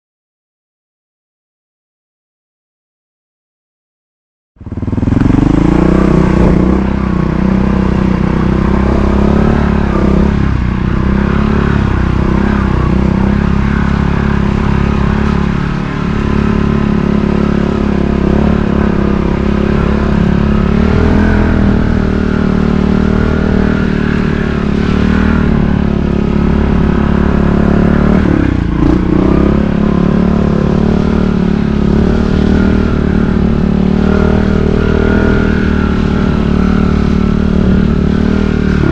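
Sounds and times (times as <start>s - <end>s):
motorcycle engine revving: 4.6s - 38.9s.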